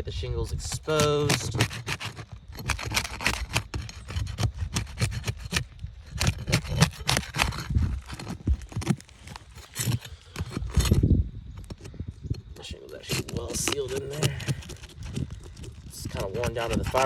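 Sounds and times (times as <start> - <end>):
tool scraping roof shingles: 0.5 - 17.0.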